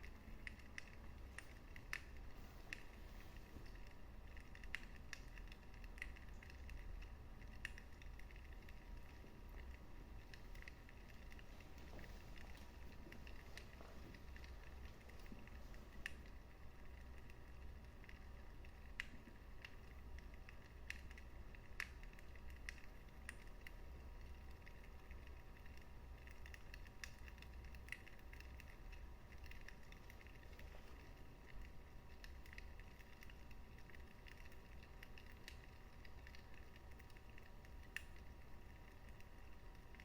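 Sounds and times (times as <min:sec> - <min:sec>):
fire popping: 0:00.0 - 0:40.0
wood fire crackling: 0:00.0 - 0:40.0.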